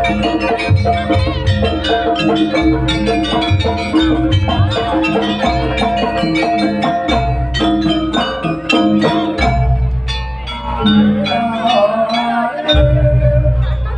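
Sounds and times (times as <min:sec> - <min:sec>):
metallophones ringing: 0:00.0 - 0:13.9
percussion strokes: 0:00.0 - 0:13.9
sustained deep bass: 0:00.0 - 0:13.9.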